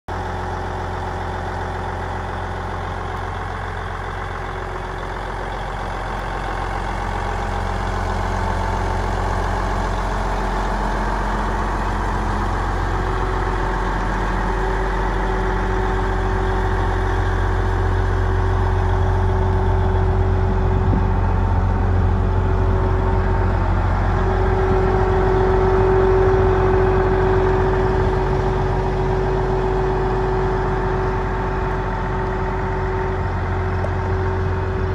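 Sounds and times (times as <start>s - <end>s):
diesel tractor engine idling: 0.1s - 34.9s.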